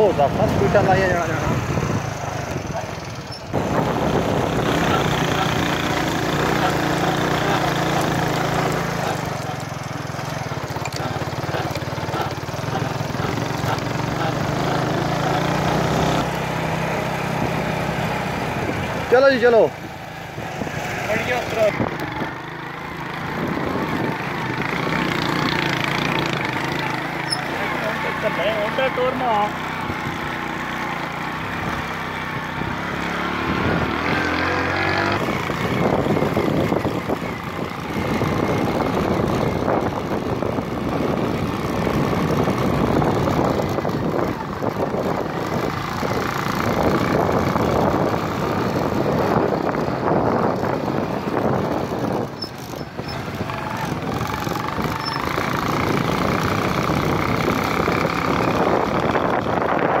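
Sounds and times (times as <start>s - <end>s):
rattle and rumble on rough ground: 0.0s - 60.0s
vehicle engine: 0.0s - 60.0s.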